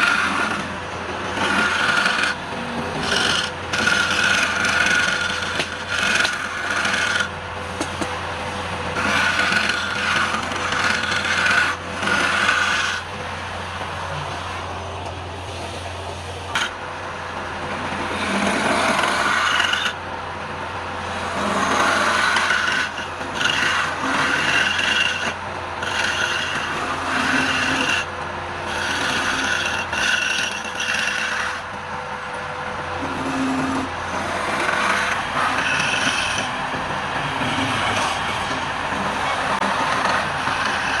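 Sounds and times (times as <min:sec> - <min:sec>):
hand tool scraping wood on lathe: 0:00.0 - 0:13.2, 0:15.5 - 0:16.8, 0:18.0 - 0:20.0, 0:21.0 - 0:31.8, 0:33.0 - 0:41.0.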